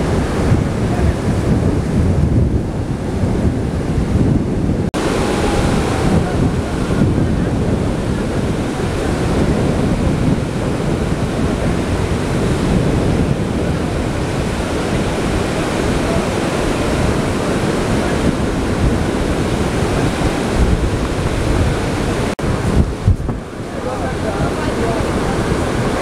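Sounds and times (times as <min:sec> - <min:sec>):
sea surf: 0:00.0 - 0:26.0
wind buffeting microphone: 0:00.0 - 0:26.0.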